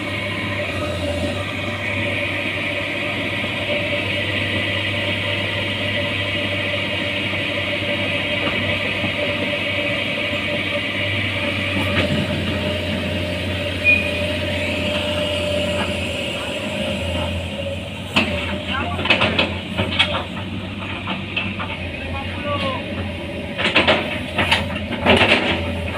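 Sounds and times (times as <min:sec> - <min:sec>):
excavator diesel drone: 0:00.0 - 0:25.9
steady whine: 0:00.0 - 0:25.9.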